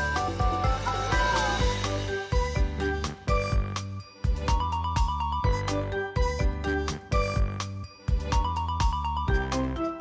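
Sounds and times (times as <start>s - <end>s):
background music with beat and bass: 0.0s - 10.0s.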